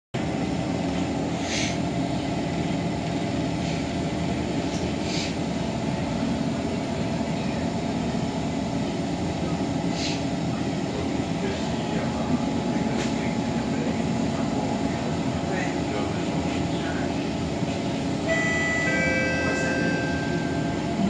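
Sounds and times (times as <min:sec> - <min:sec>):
train equipment humming: 0:00.2 - 0:21.0.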